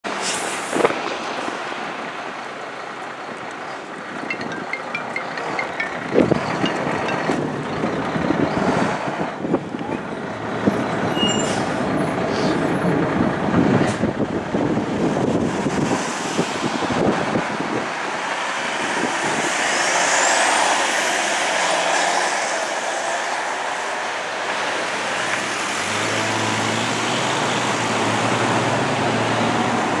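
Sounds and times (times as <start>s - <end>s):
passing traffic: 0.0s - 30.0s
fire engine driving off: 0.1s - 30.0s.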